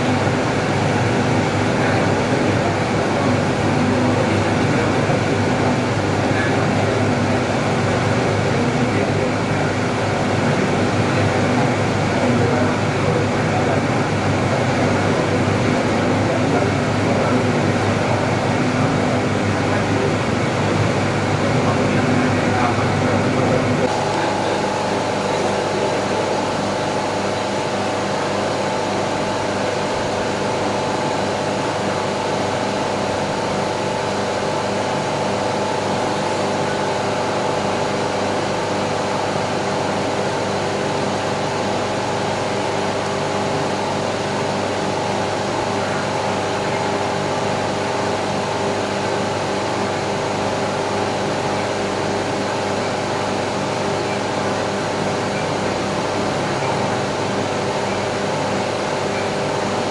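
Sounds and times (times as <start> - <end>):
steady mechanical hum: 0.0 - 59.9.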